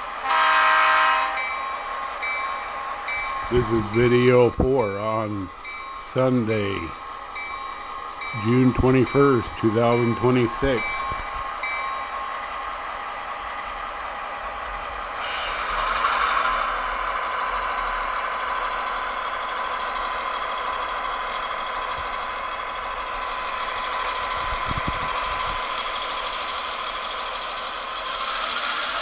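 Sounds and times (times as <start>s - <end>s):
model diesel locomotive engine whine: 0.0s - 29.0s.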